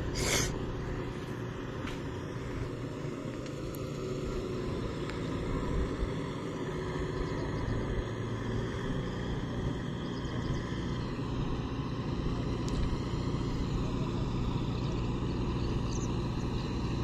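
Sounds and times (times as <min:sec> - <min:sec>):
distant tractor engine rumble: 0:00.0 - 0:17.0.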